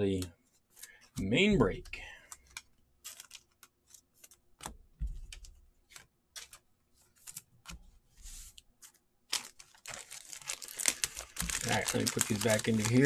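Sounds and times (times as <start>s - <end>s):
cards and plastic sleeves handled: 0.0s - 13.0s.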